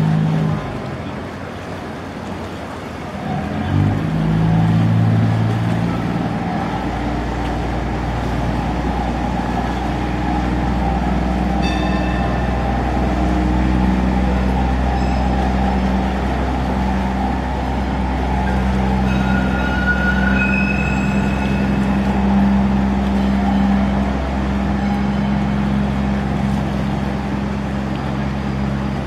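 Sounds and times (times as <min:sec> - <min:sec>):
ferry engine rumbling: 0:00.0 - 0:29.0
propeller churning water: 0:00.0 - 0:29.0.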